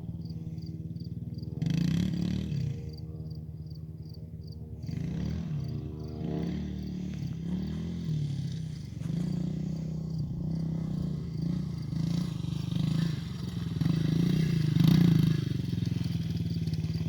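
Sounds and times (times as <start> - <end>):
dirt bike engine revving: 1.2 - 2.9, 4.8 - 17.0.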